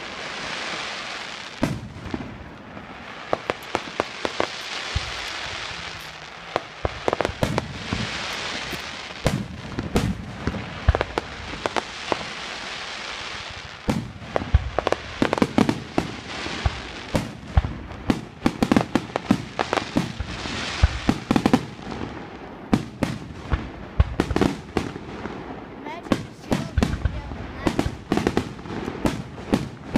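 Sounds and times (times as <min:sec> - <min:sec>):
crackling hiss of fireworks: 0:00.0 - 0:29.9
fireworks bursting with sharp bangs: 0:00.0 - 0:29.9.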